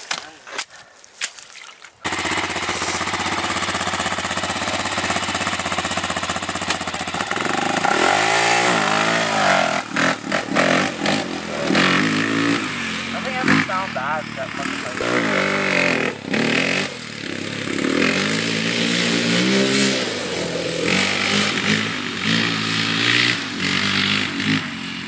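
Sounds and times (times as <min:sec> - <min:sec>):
quad engine revving: 0:02.0 - 0:25.0.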